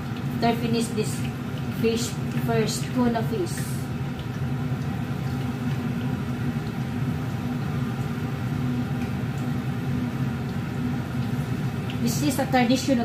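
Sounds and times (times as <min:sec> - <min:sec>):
extractor fan humming: 0:00.0 - 0:13.0.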